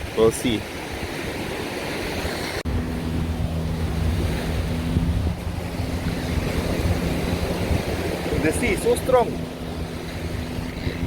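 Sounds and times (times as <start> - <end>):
low engine hum: 0.0 - 11.0
surf on the beach: 0.0 - 11.0
wind buffeting microphone: 0.0 - 11.0.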